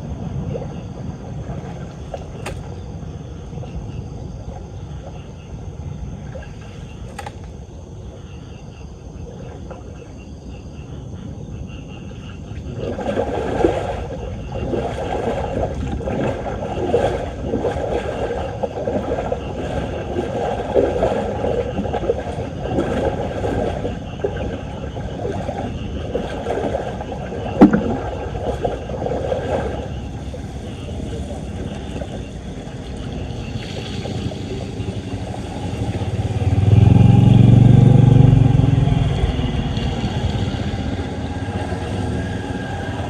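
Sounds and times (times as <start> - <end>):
floodwater gurgling and churning: 0.0 - 43.0.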